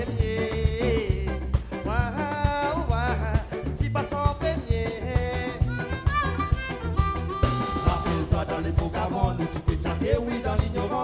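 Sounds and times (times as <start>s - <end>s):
bass guitar: 0.0s - 11.0s
drum kit: 0.0s - 11.0s
electric guitar melody: 0.0s - 11.0s.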